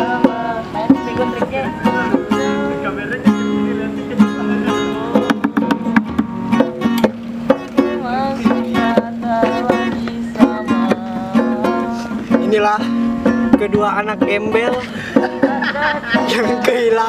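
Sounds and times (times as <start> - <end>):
guitar song: 0.0 - 17.0.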